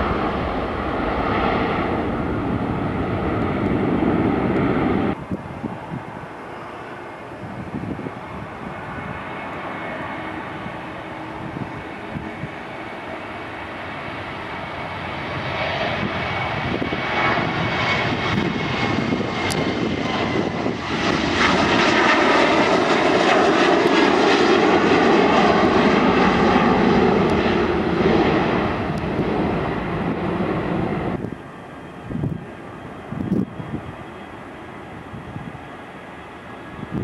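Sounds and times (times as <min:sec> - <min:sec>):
jet airliner taking off: 0:00.0 - 0:37.0.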